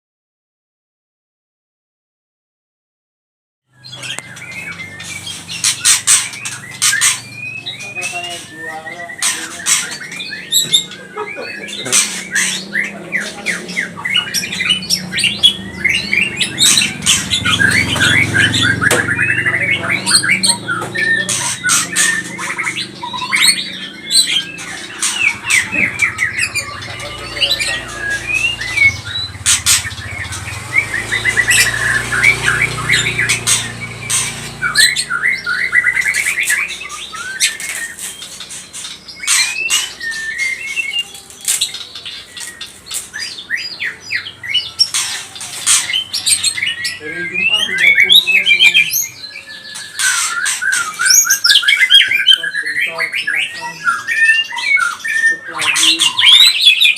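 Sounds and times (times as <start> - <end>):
bird chattering and trilling: 3.7 - 56.9.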